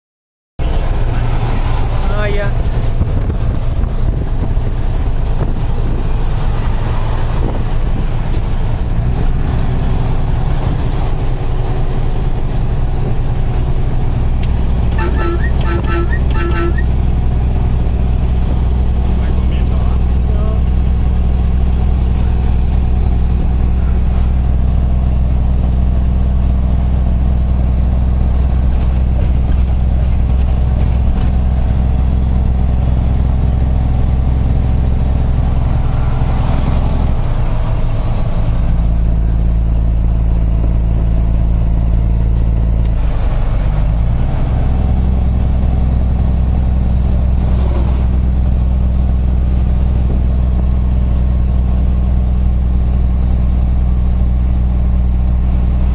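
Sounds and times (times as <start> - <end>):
truck diesel engine drone: 0.6 - 55.9.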